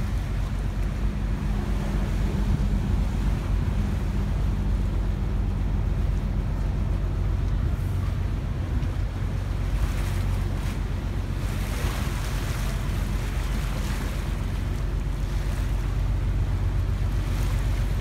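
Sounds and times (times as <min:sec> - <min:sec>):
boat engine droning: 0:00.0 - 0:18.0
water washing along hull: 0:00.0 - 0:18.0
wind buffeting microphone: 0:00.0 - 0:18.0.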